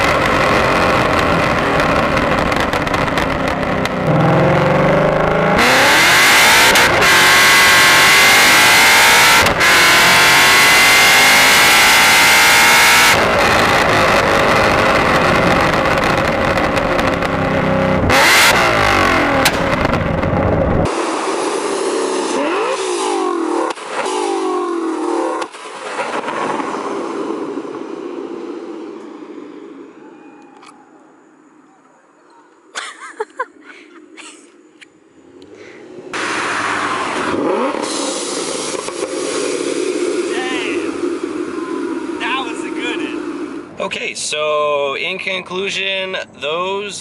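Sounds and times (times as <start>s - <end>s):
car exhaust revving and accelerating: 0.0s - 29.9s, 35.1s - 44.2s.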